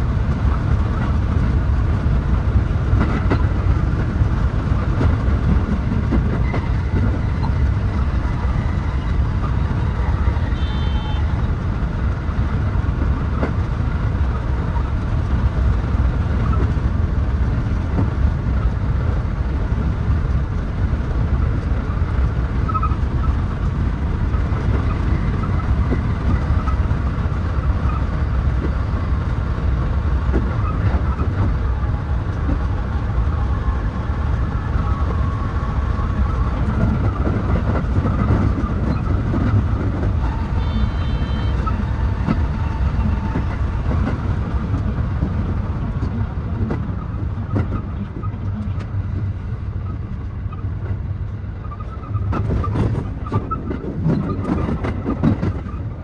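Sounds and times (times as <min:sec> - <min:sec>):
electric train rumbling on track: 0:00.0 - 0:56.0.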